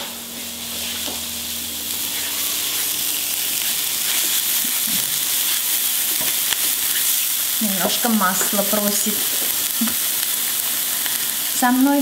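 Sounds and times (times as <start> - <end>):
vegetables sizzling in oil: 0.2 - 12.0.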